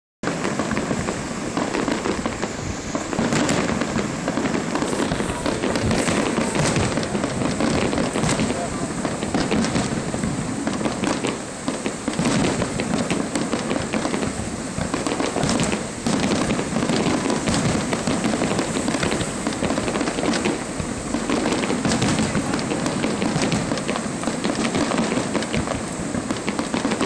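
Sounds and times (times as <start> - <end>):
fireworks bursting and crackling: 0.2 - 27.0.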